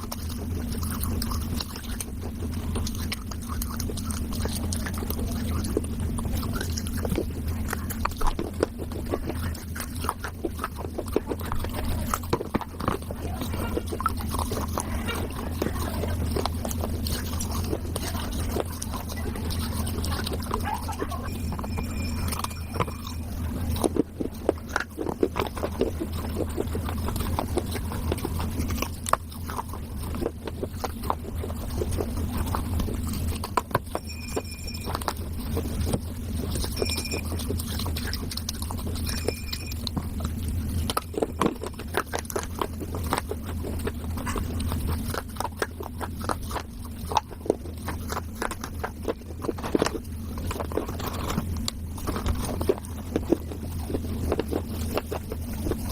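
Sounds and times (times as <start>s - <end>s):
crunching and chewing clay: 0.0s - 55.9s
steady low hum: 0.0s - 55.9s.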